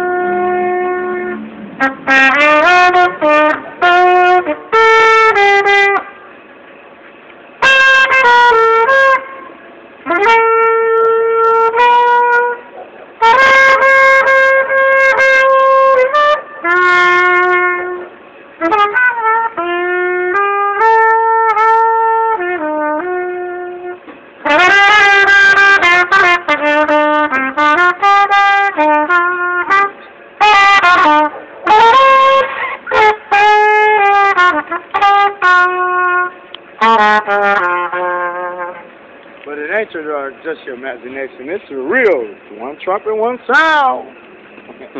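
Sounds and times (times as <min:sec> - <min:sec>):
trumpet playing slow melody: 0:00.0 - 0:06.5, 0:07.6 - 0:39.2.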